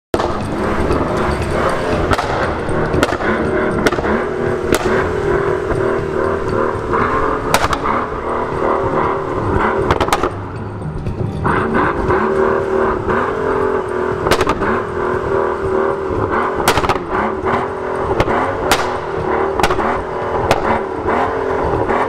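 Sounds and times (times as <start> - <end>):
car engine running: 0.1 - 22.0
exhaust crackles: 0.1 - 22.0.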